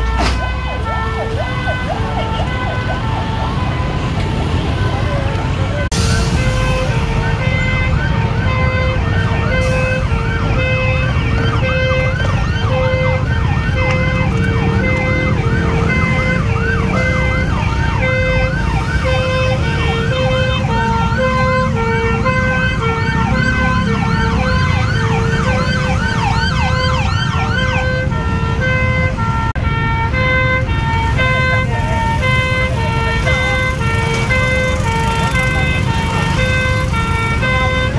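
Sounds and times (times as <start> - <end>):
rising-and-falling yelp siren: 0.0 - 37.9
two-tone hi-lo siren: 0.0 - 37.9.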